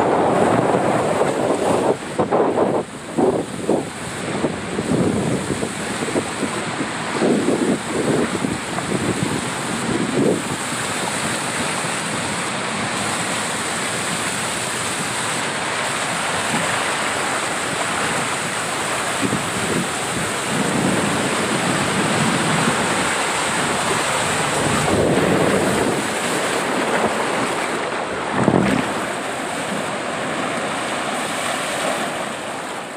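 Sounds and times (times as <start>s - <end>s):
water rushing: 0.0s - 32.9s
wind on camera: 0.0s - 32.9s.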